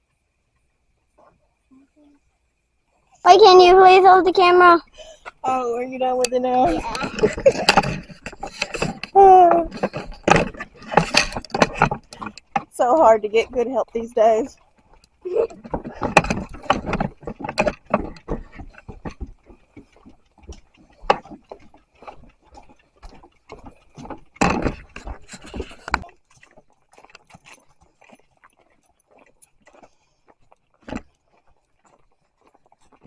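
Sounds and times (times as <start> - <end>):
footsteps on a trail: 3.6 - 33.0.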